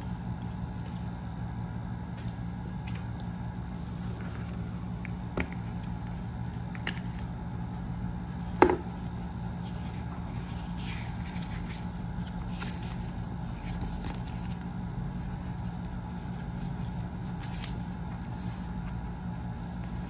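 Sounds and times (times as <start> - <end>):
low background hum: 0.0 - 20.0
paper rustling: 3.8 - 20.0.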